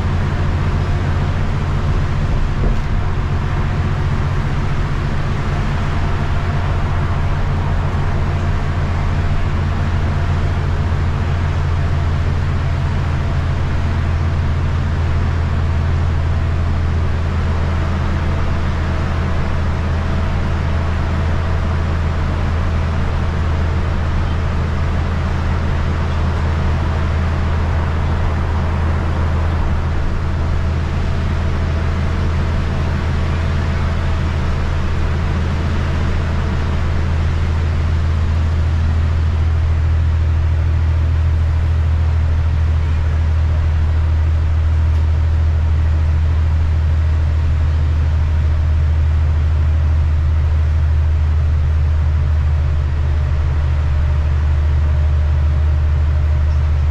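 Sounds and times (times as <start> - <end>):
bus engine droning: 0.0 - 56.9.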